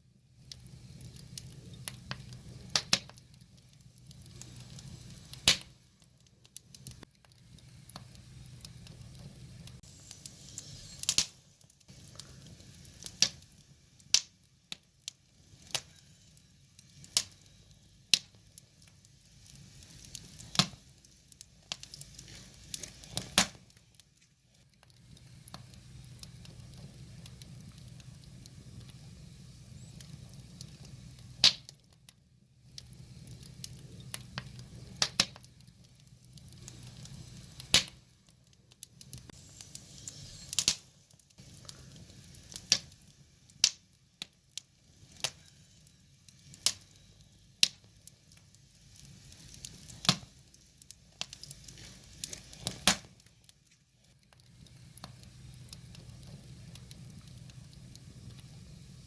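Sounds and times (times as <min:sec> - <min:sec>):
hiss and rumble of flames: 0:00.0 - 0:59.0
wood fire crackling: 0:00.0 - 0:59.0.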